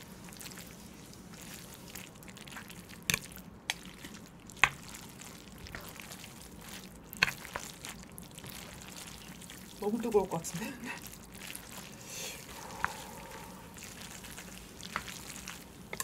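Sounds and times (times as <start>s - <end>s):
noodles being stirred: 0.0s - 16.0s.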